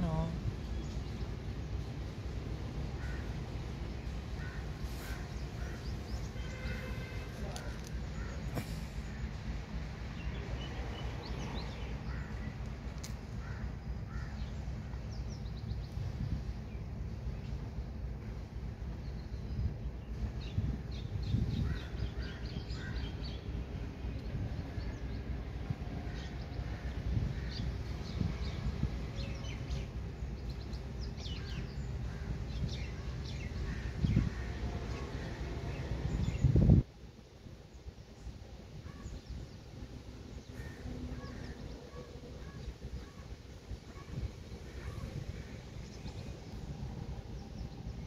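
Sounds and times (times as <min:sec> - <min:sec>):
birds chirping: 0:00.0 - 0:36.6, 0:37.7 - 0:48.0
steady low rumble: 0:00.0 - 0:48.0.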